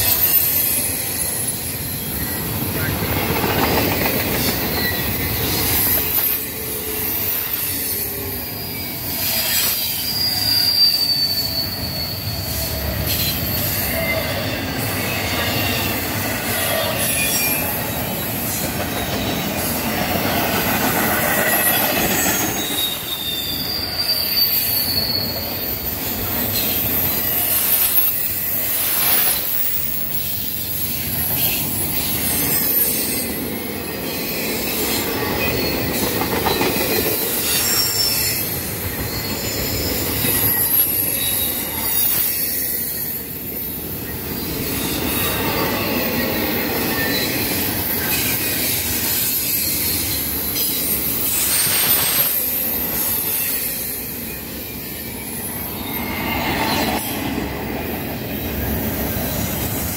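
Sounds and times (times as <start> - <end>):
high thin wheel squeals: 0.0 - 59.9
train wheels rumbling over track: 0.0 - 59.9.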